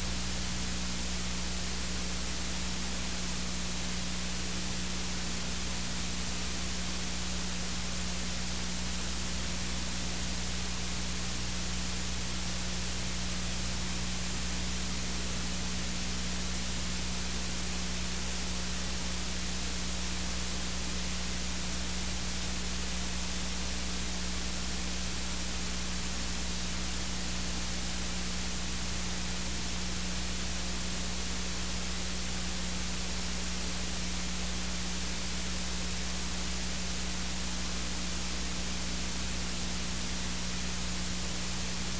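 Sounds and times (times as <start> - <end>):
hiss and static: 0.0 - 41.9
low electrical hum: 0.0 - 41.9.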